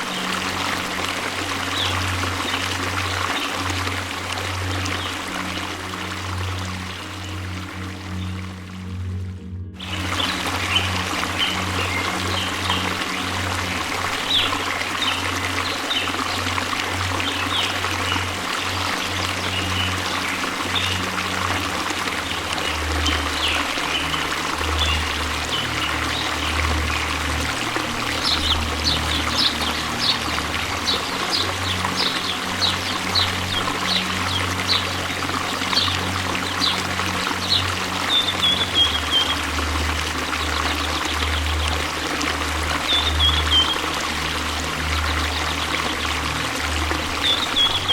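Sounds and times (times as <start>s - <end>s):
waterfall rushing: 0.0s - 9.1s, 9.8s - 47.9s
low music drone: 0.0s - 47.9s.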